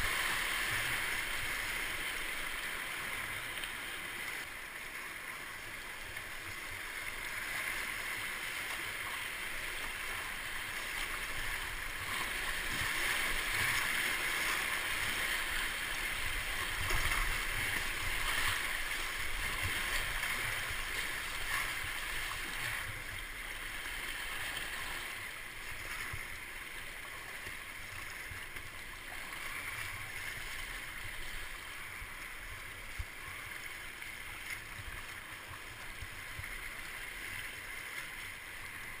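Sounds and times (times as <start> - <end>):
whitewater rushing around kayak: 0.0 - 39.0.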